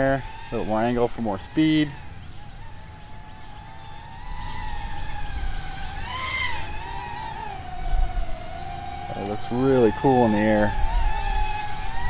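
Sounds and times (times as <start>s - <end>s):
drone propellers whining: 0.0s - 12.0s
wind rumble on microphone: 2.2s - 12.0s.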